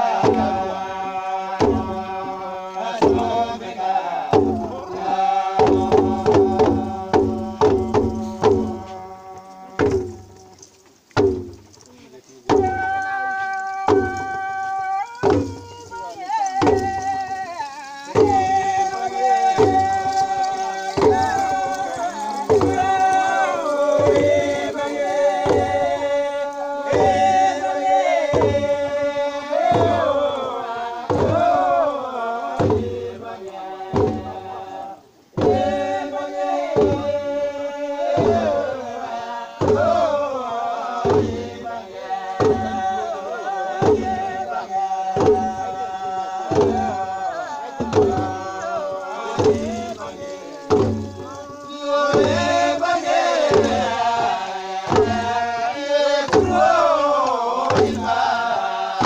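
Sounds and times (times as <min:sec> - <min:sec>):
low thumping drum beat: 0:00.0 - 0:11.8, 0:12.4 - 0:59.0
voices chanting: 0:00.0 - 0:59.0.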